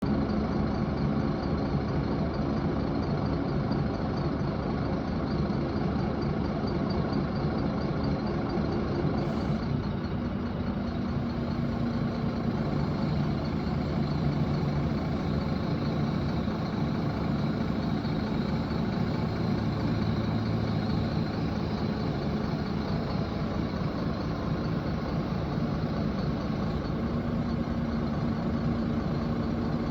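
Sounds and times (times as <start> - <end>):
diesel engine running: 0.1 - 29.9.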